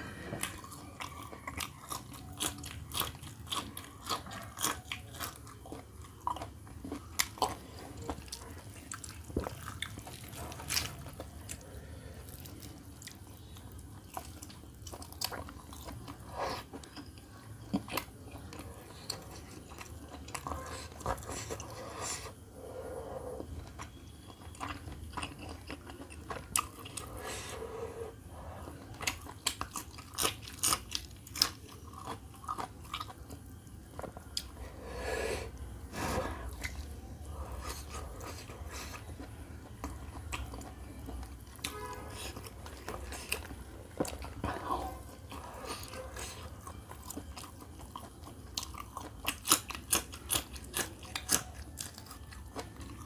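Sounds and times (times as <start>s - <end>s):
chewing with wet mouth smacks: 0.4s - 21.8s, 23.5s - 27.7s, 28.4s - 34.6s, 36.5s - 53.0s.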